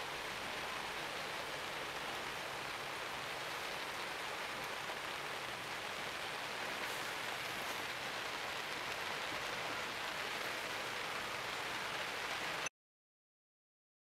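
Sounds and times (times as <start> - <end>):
steady rain falling: 0.0 - 12.7.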